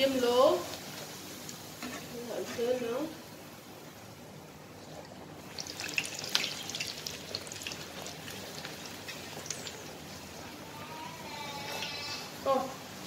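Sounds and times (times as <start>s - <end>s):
dough sizzling in hot oil: 0.0s - 13.0s.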